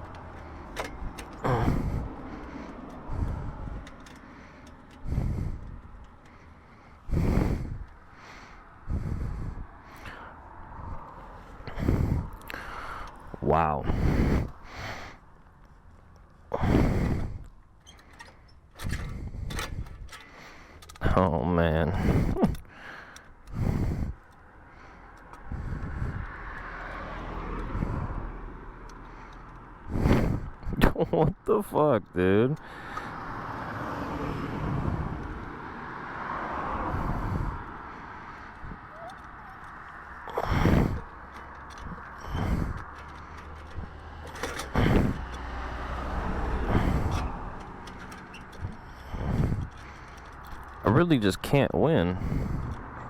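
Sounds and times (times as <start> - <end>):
vehicle passing by: 0.0 - 16.0, 16.6 - 53.0
road traffic rumble: 0.0 - 53.0.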